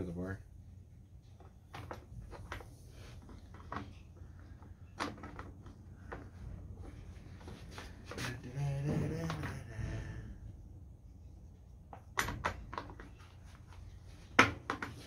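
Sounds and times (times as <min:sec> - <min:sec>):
low steady rumble: 0:00.0 - 0:14.4.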